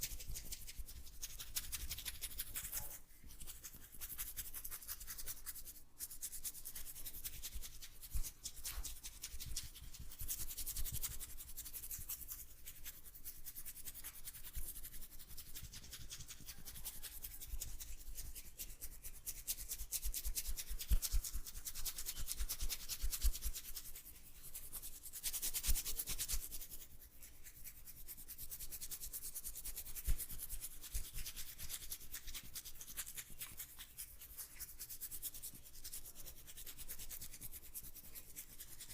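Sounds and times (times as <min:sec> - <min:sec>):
hands rubbing oiled hair: 0:00.0 - 0:38.9.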